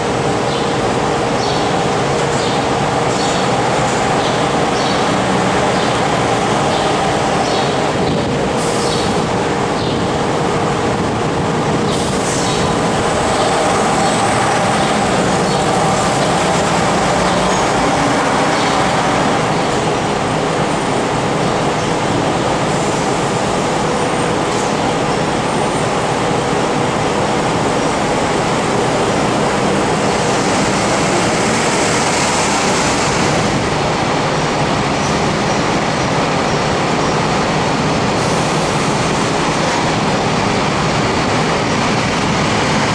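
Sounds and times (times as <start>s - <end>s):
diesel bus engines: 0.0s - 42.9s
traffic noise: 0.0s - 42.9s.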